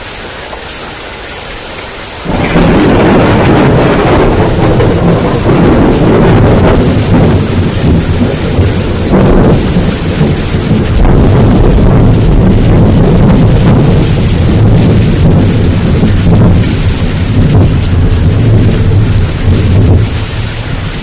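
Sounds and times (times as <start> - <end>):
heavy rain hiss: 0.0 - 21.0
thunder rumbling: 2.2 - 21.0.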